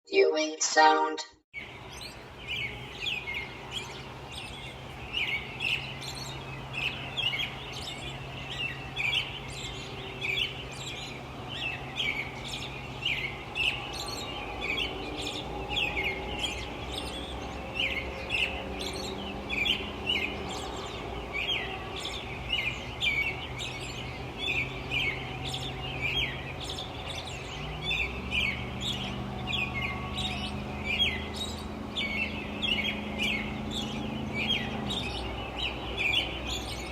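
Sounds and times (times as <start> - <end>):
distant traffic rumble: 1.6 - 36.9
small birds chirping: 1.6 - 36.9.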